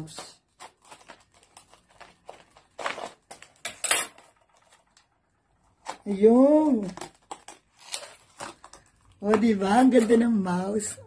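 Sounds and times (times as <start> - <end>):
plastic crackling: 0.0 - 10.4.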